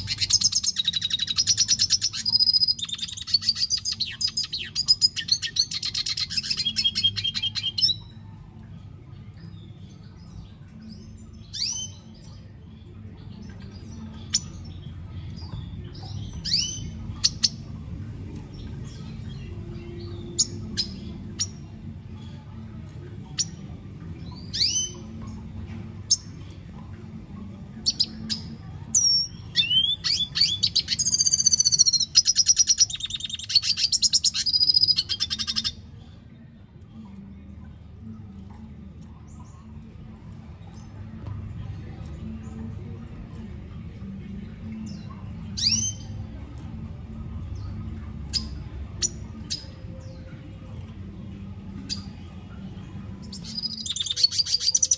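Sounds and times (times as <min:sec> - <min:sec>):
bird singing with trills: 0:00.0 - 0:08.2, 0:09.2 - 0:17.7, 0:18.3 - 0:22.6, 0:23.3 - 0:26.5, 0:27.4 - 0:36.2, 0:42.0 - 0:46.4, 0:47.4 - 0:54.9.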